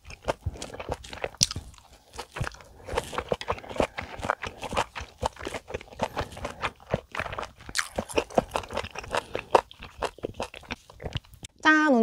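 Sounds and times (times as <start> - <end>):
wet chewing clicks and smacks: 0.0 - 11.6.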